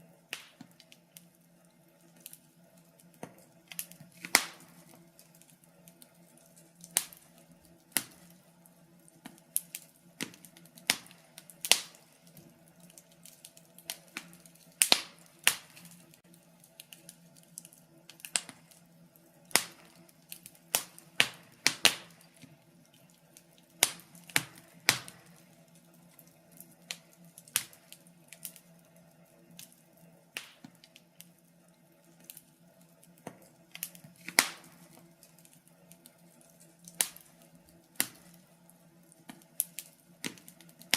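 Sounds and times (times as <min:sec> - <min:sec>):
faint steady hum: 0:00.0 - 0:40.9
fire crackling and popping: 0:00.0 - 0:40.9.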